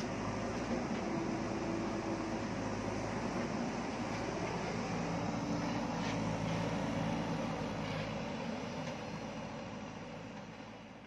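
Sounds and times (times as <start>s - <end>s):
backhoe diesel engine running: 0.0s - 11.0s.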